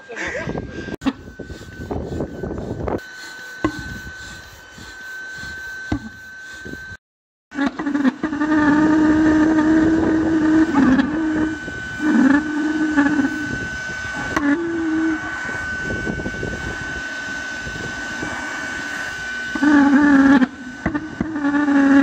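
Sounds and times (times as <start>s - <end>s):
pulse jet engine droning: 0.0s - 22.0s
hissing with high whistle: 0.6s - 7.0s, 7.6s - 22.0s.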